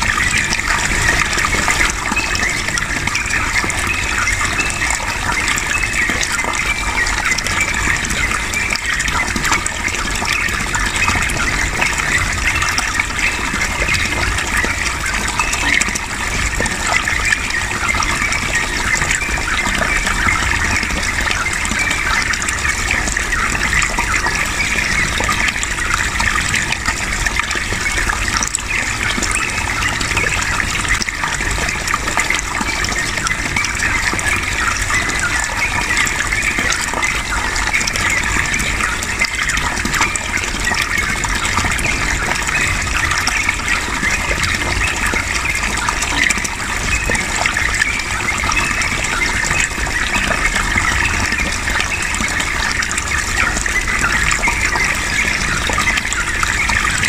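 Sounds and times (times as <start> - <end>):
running water splashing: 0.0 - 57.0.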